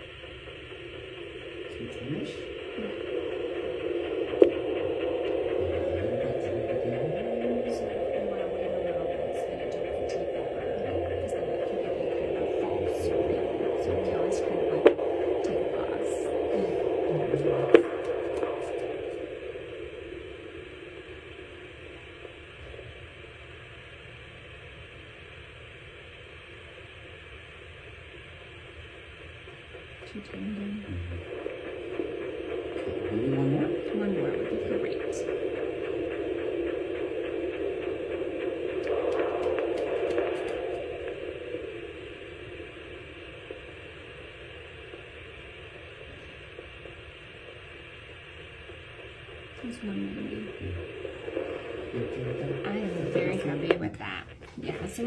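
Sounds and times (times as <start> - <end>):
static hiss from flow detector speaker: 0.0 - 55.0.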